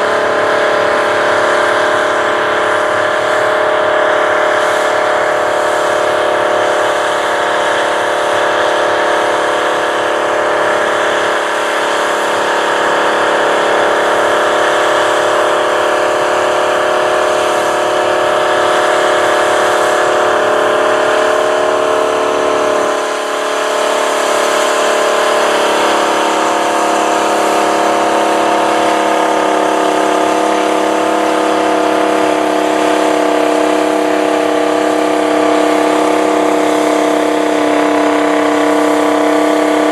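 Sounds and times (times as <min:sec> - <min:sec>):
tractor diesel engines droning: 0:00.0 - 0:39.9.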